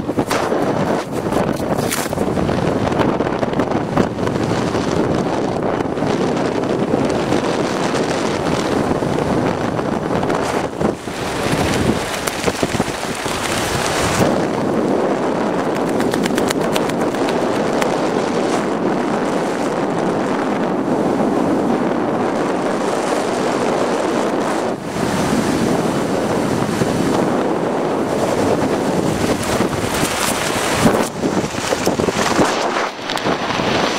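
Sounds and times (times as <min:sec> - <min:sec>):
wind roaring over microphone: 0:00.0 - 0:33.9.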